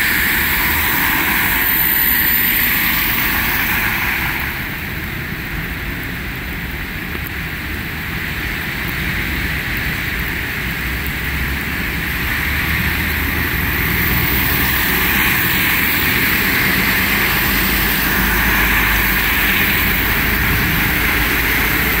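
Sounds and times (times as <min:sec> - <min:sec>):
tyres hissing on wet road: 0:00.0 - 0:22.0.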